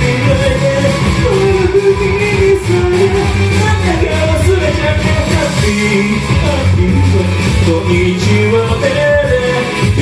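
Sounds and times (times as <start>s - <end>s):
karaoke backing track: 0.0s - 10.0s
man singing into microphone: 0.0s - 10.0s.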